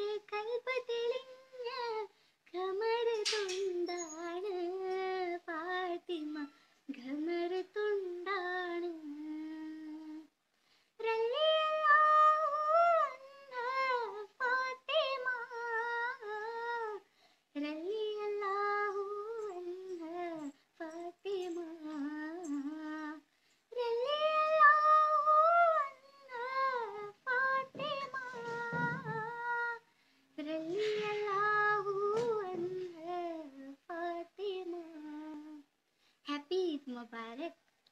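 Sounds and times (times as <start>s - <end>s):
girl singing unaccompanied: 0.0s - 37.9s.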